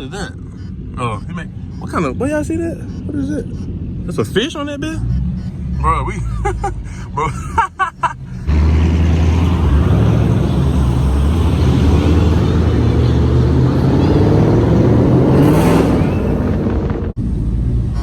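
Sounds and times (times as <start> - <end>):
car engine revving: 0.0 - 7.3, 8.1 - 18.0.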